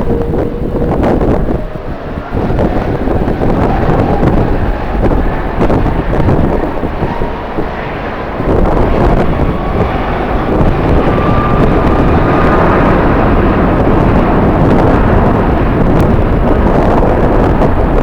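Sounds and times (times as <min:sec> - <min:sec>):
jet engines running: 0:00.0 - 0:18.0
wind buffeting microphone: 0:00.0 - 0:18.0.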